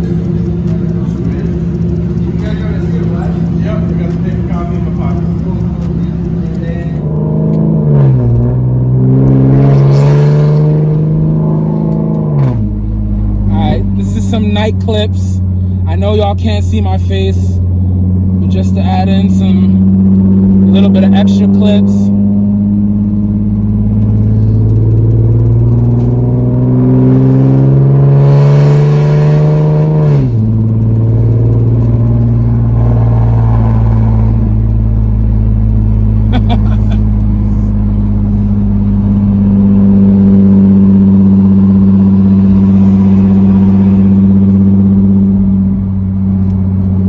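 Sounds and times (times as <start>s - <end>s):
loud car engine revving: 0.0s - 47.0s.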